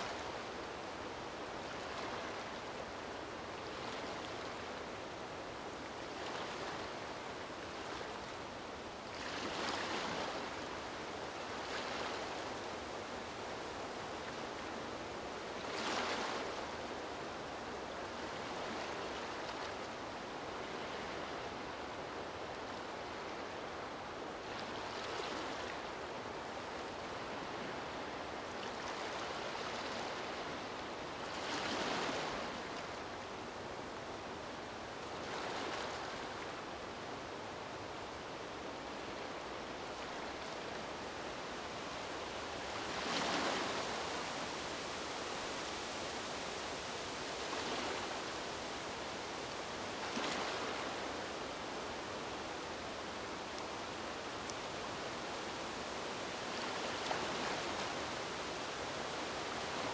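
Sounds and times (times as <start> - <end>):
small waves lapping: 0.0 - 59.9.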